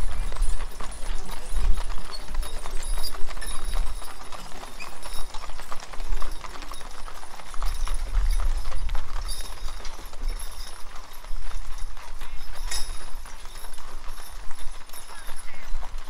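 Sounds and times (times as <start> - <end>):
hooves clip-clopping on road: 0.0 - 16.0.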